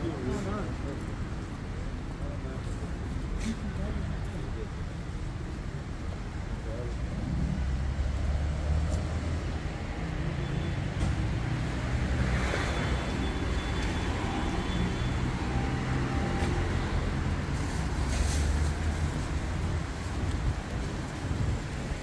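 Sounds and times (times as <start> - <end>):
car engines passing: 0.0 - 22.0.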